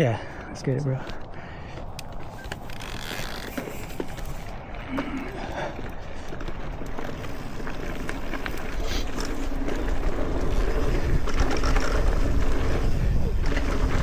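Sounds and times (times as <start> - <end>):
bike tyres on dirt trail: 0.1 - 14.0
bike rattles and clicks: 1.0 - 14.0
wind rumbling on microphone: 1.2 - 14.0.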